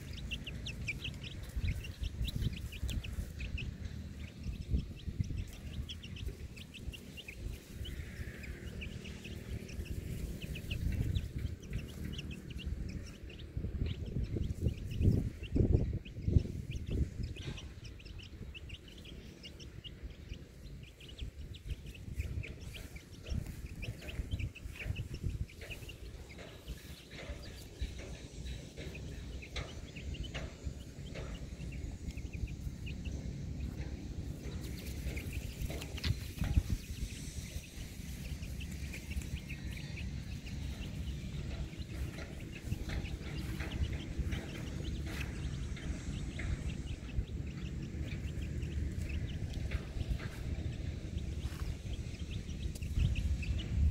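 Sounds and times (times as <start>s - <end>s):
bird-like clucking calls: 0.0s - 53.9s
low rumble: 0.0s - 53.9s.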